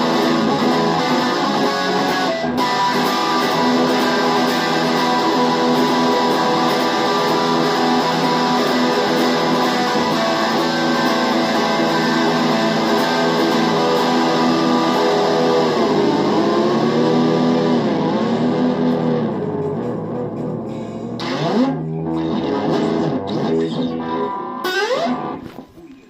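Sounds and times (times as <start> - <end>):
electric guitar with bending notes: 0.0 - 25.9.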